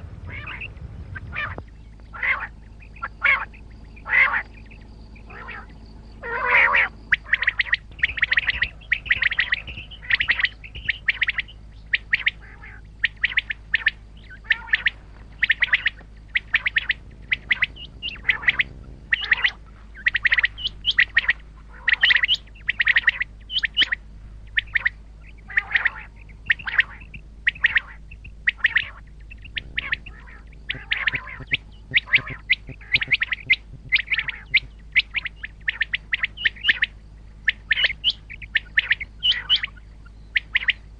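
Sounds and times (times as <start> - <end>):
faint low hum: 0.0 - 40.9
quail calling: 0.0 - 40.9.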